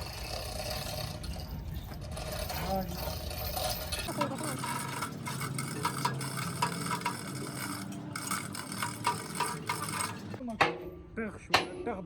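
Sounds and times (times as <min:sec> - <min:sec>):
metallic clinks and rattles: 0:00.0 - 0:10.4.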